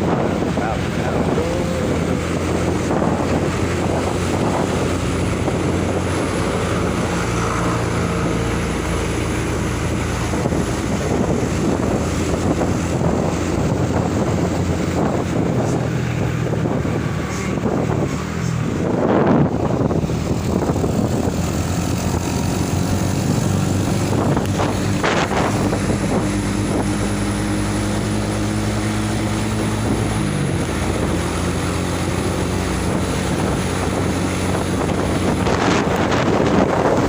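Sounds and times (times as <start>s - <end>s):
road noise: 0.0s - 37.0s
vehicle engine running: 0.0s - 37.0s
wind buffeting microphone: 0.0s - 37.0s.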